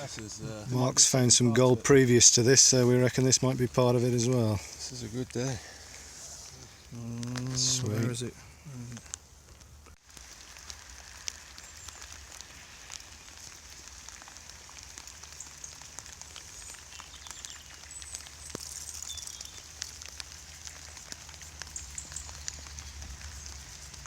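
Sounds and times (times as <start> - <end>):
faint crackling clicks: 1.9 - 8.2, 8.8 - 24.0.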